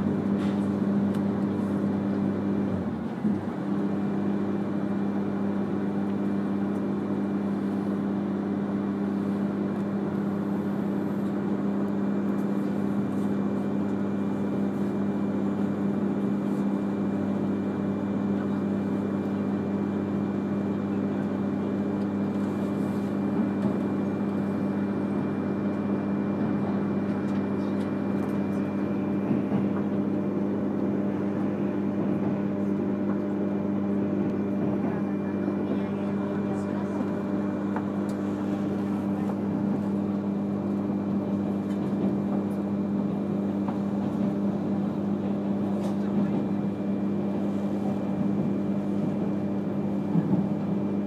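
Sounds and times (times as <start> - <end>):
train cabin running hum: 0.0 - 51.0.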